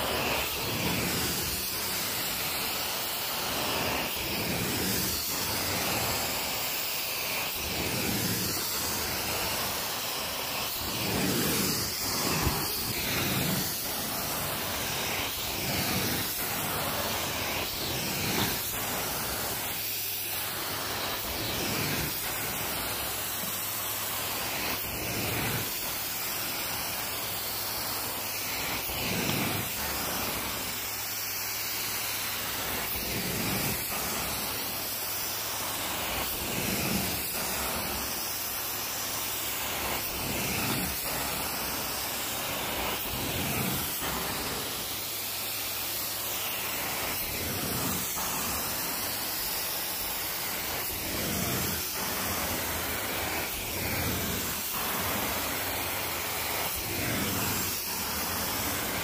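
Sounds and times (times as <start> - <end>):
carpet cleaner suction hiss: 0.0 - 59.0.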